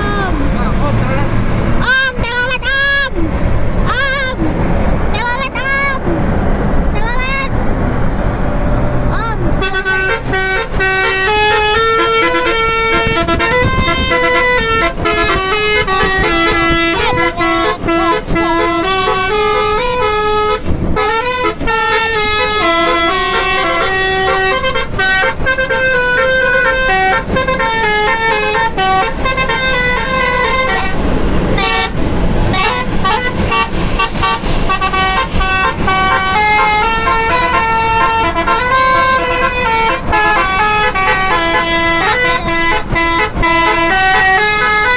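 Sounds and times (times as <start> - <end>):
bus musical horn melodies: 0.0 - 6.2, 6.9 - 44.9
bus engine rumble: 0.0 - 44.9.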